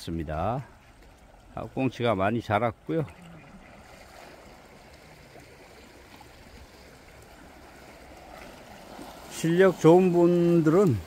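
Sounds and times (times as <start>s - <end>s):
seawater lapping against rocks: 0.0s - 11.0s.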